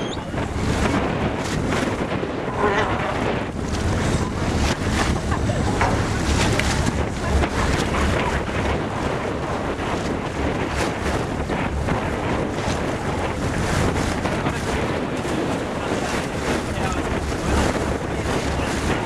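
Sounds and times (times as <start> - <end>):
water sloshing: 0.0 - 19.0
wind buffeting microphone: 0.0 - 19.0.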